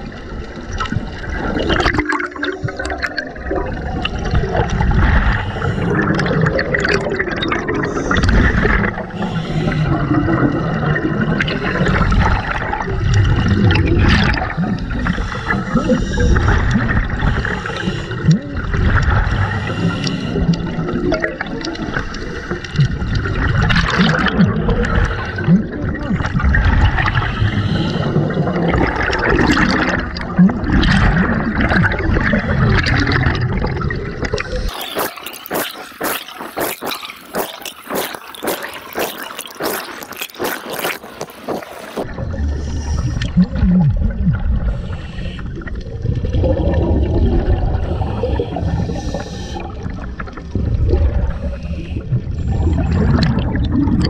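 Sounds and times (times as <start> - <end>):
scuba regulator bubbles gurgling: 0.0 - 54.0.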